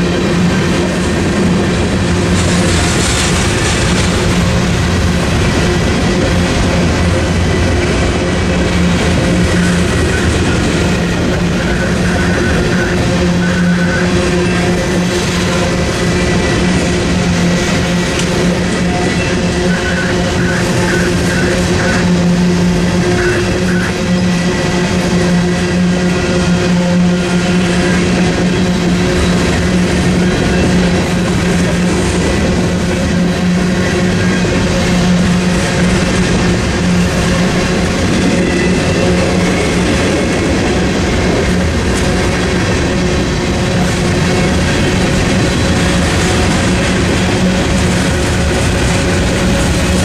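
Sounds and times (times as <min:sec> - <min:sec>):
freight train rolling past: 0:00.0 - 0:50.0
steel wheels on rails: 0:00.0 - 0:50.0.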